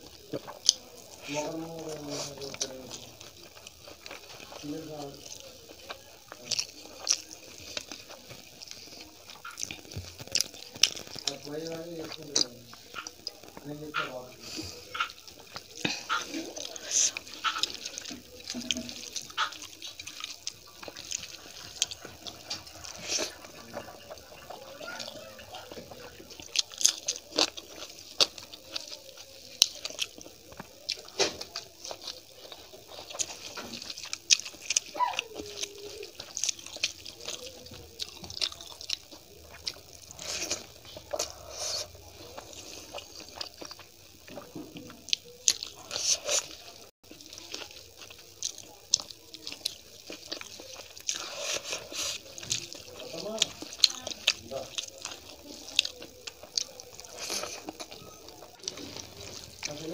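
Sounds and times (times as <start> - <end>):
chewing and lip smacking: 0.0 - 59.9.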